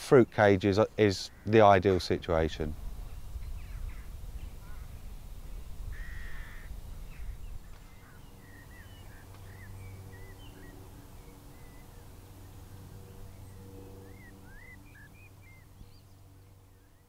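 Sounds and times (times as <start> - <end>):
faint steady hum: 0.0 - 17.0
birdsong: 0.2 - 17.0.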